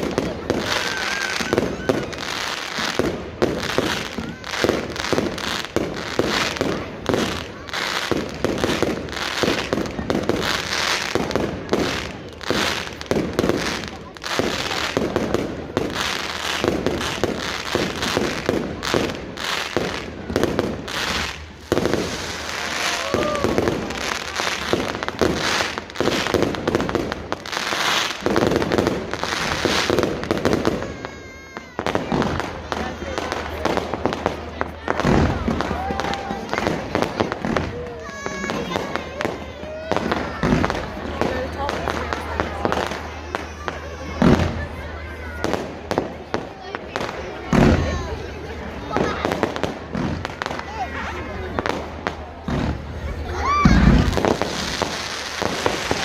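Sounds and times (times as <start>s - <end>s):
crowd voices: 0.0s - 56.0s
fireworks bangs and crackles: 0.0s - 56.0s.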